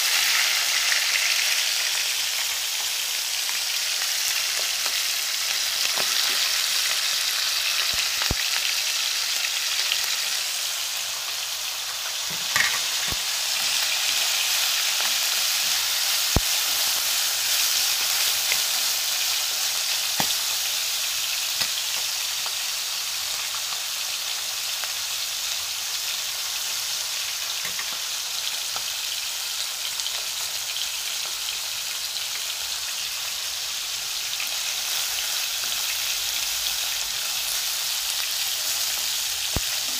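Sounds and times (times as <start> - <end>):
oil sizzling in a pan: 0.0 - 39.9.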